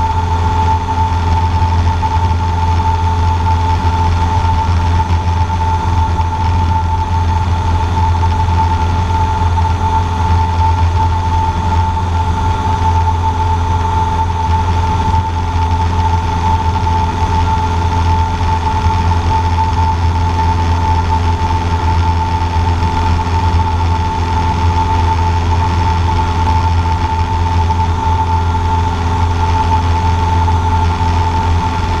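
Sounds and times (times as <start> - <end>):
airplane engine droning: 0.0 - 32.0
high-pitched whine: 0.0 - 32.0.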